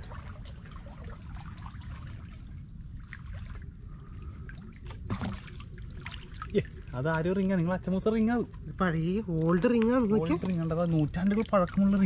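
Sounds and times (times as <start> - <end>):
creek water trickling: 0.0 - 12.0
steady low rumble: 0.0 - 12.0
wading splashes: 0.0 - 12.0.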